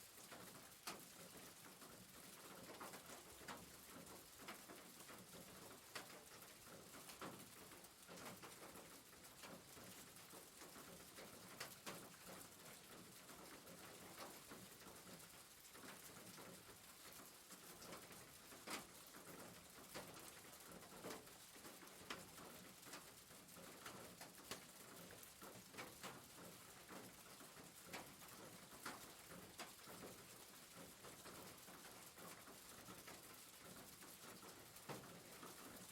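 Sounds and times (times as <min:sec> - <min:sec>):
rain on a roof: 0:00.0 - 0:35.9
raindrops ticking: 0:00.1 - 0:35.9.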